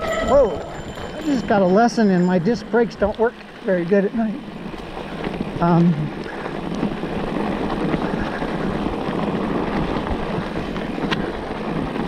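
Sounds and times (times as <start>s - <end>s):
bike rolling on wet dirt trail: 0.4s - 12.0s.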